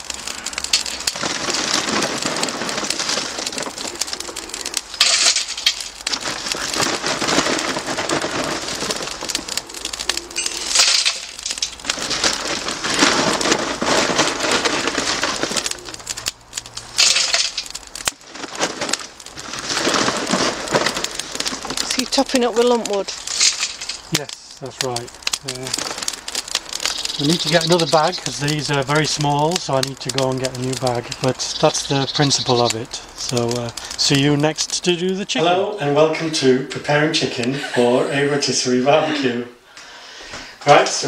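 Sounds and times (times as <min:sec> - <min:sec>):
crackling hiss: 0:00.0 - 0:41.0
charcoal clattering into metal chimney: 0:00.1 - 0:35.1.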